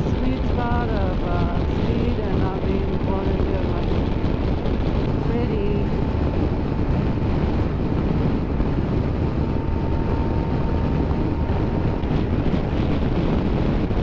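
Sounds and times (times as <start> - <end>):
motorcycle engine at speed: 0.0 - 14.0
wind rush on microphone: 0.0 - 14.0.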